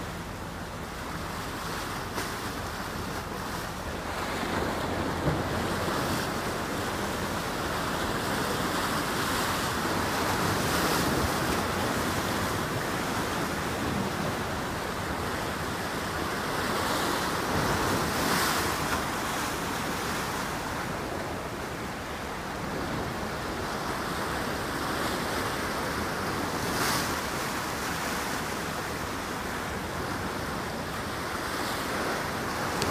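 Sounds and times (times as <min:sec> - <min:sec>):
waves washing: 0:00.0 - 0:32.9.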